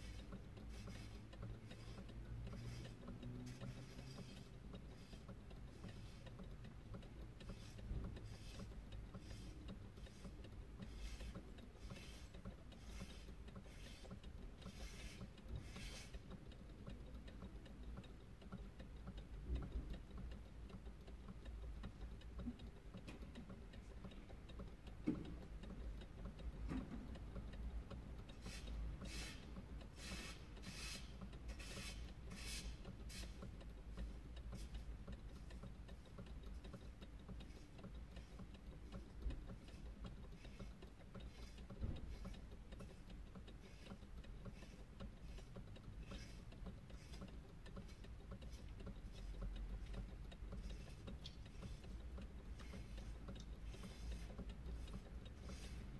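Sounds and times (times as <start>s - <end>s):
mechanical ticking: 0.0s - 55.9s.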